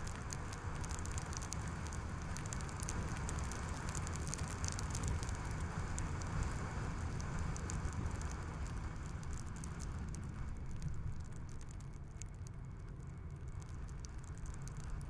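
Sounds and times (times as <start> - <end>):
crackle of small ticks: 0.0 - 15.0
tyre and road noise rumble: 0.0 - 15.0.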